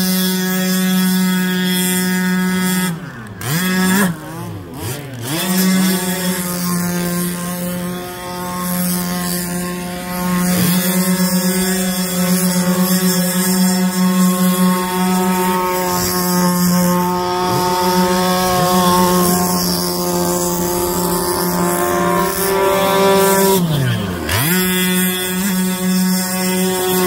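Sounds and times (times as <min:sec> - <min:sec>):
small two-stroke engine revving: 0:00.0 - 0:27.0.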